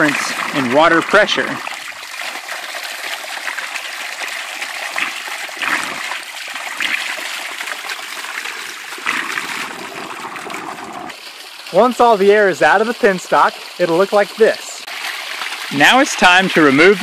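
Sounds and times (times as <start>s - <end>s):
water gushing and splashing: 0.0s - 17.0s.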